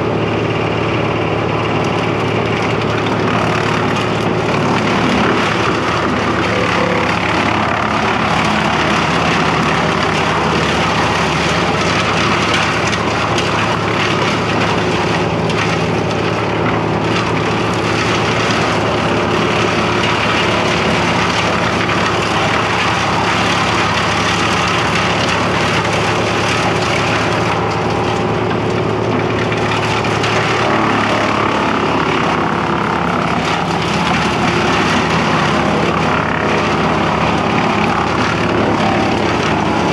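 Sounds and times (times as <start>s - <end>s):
chipper engine drone: 0.0s - 39.9s.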